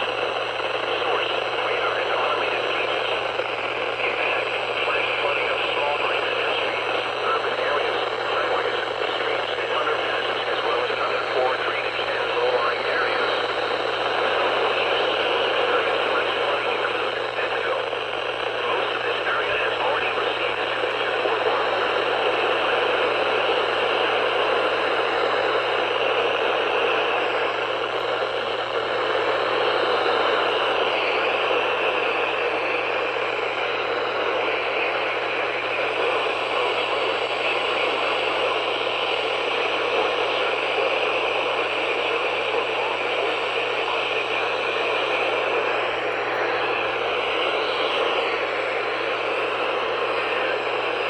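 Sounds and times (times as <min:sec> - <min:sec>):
radio static hiss: 0:00.0 - 0:51.0.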